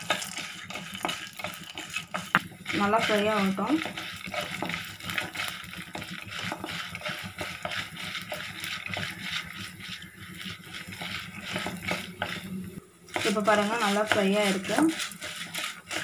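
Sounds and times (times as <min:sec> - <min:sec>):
food sizzling in hot oil: 0:00.0 - 0:16.0
wooden spatula scraping: 0:00.0 - 0:16.0.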